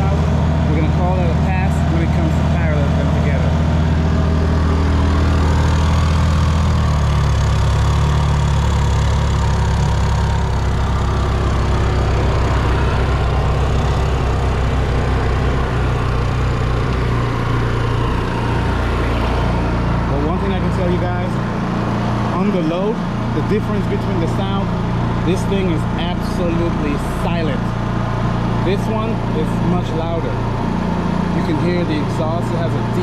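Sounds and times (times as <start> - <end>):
generators running: 0.0 - 33.0.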